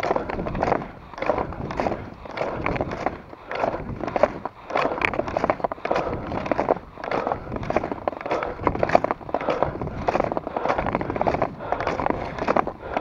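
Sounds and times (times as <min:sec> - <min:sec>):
sharp ski clicks: 0:00.0 - 0:13.0
skis scraping over packed snow: 0:00.0 - 0:13.0.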